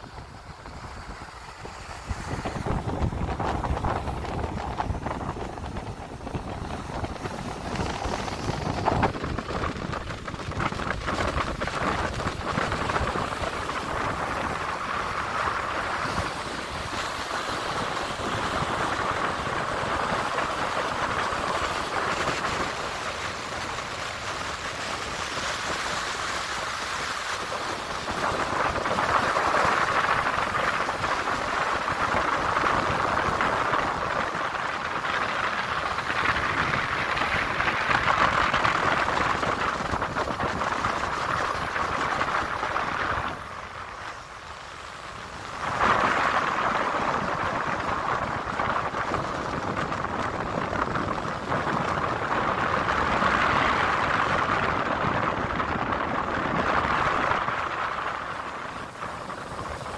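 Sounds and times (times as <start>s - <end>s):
sea water rushing at ship's bow: 0.0s - 59.9s
wind buffeting microphone: 0.0s - 59.9s.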